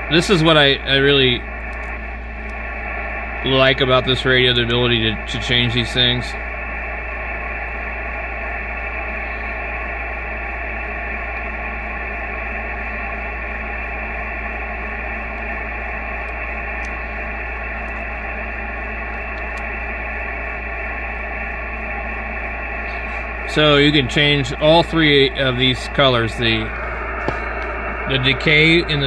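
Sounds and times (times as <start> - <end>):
low hum: 0.0 - 29.0
radio band noise hiss: 0.0 - 29.0.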